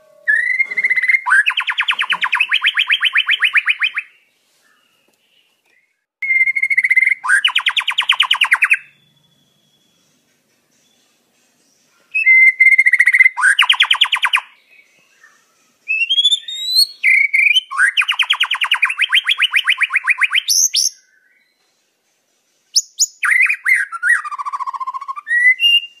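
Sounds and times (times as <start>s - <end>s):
bird singing whistles and trills: 0.3s - 5.0s, 6.2s - 11.2s, 12.1s - 21.6s, 22.8s - 26.0s.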